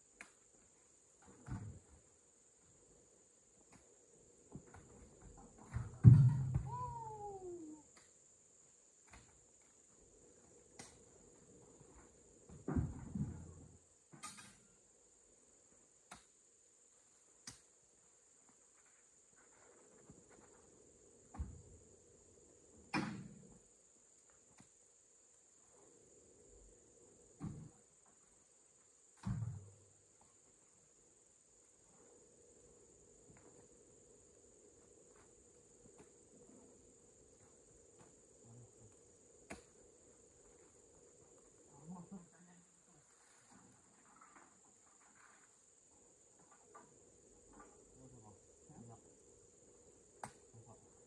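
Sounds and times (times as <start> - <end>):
insects trilling: 0.0 - 51.0.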